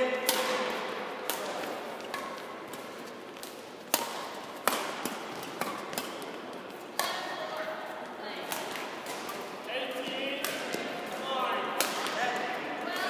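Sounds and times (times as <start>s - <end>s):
rackets hitting shuttlecock: 0.0s - 7.8s, 8.4s - 13.0s
sports hall background: 0.0s - 13.0s.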